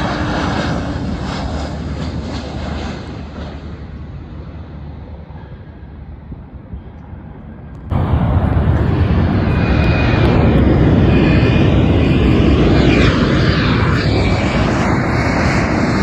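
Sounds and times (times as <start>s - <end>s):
faint distant jet rumble: 0.0s - 16.0s
faint high engine whine: 0.0s - 16.0s
jet engines roaring at takeoff: 0.0s - 16.0s.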